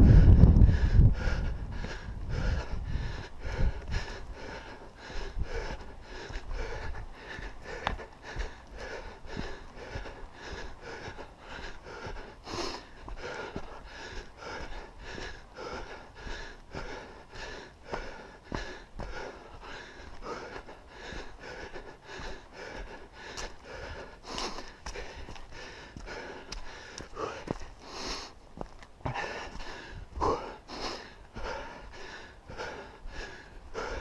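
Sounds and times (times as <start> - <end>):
person breathing hard: 0.0 - 34.0.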